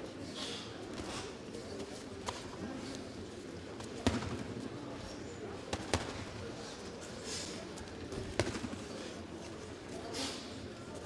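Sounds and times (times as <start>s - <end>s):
crowd murmur: 0.0s - 11.0s.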